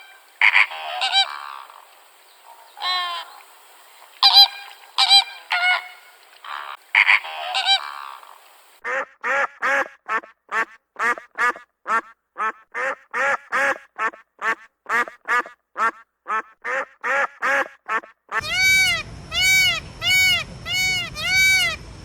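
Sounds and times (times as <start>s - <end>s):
duck quacking: 0.0s - 3.5s, 4.2s - 22.0s
waterfowl honking: 0.0s - 22.0s.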